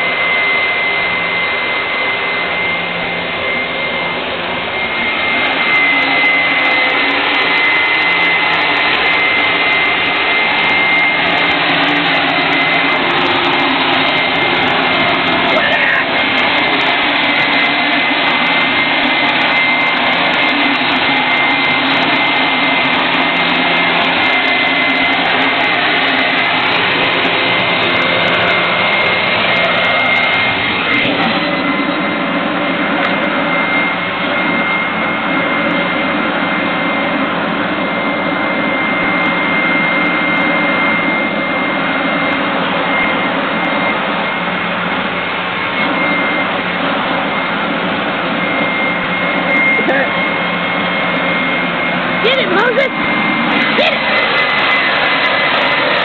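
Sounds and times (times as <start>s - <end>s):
leaf blower running: 0.0s - 56.0s.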